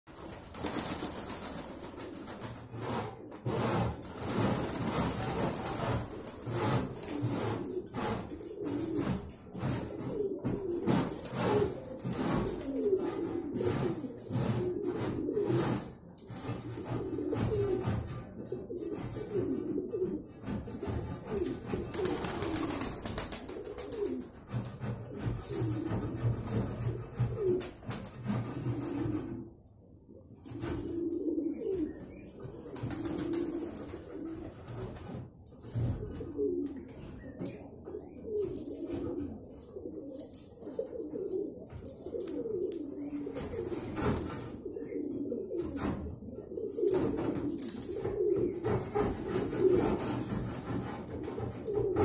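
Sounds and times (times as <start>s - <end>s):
pigeons cooing: 0.1s - 52.0s.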